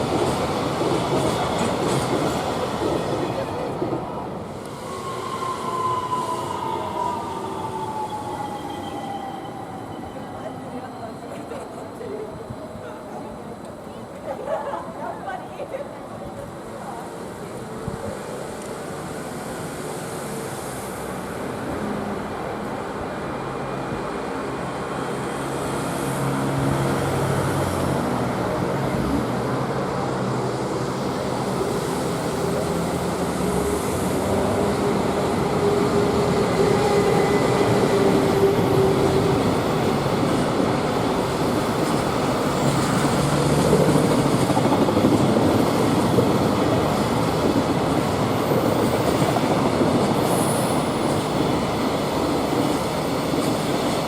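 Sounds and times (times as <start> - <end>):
train wheels rumbling on rails: 0.0 - 14.5, 16.3 - 54.0.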